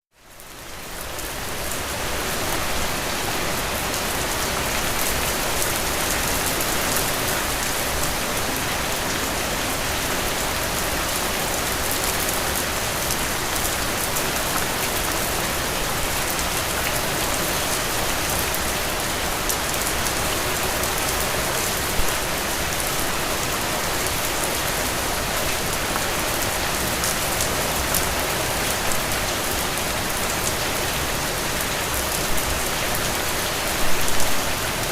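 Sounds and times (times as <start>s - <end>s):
heavy rain falling on a surface: 0.1s - 34.9s.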